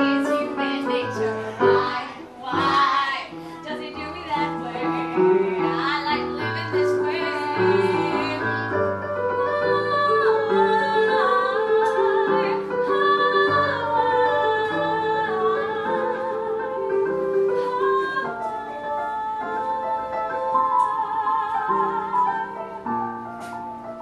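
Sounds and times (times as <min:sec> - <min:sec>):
piano accompaniment: 0:00.0 - 0:24.0.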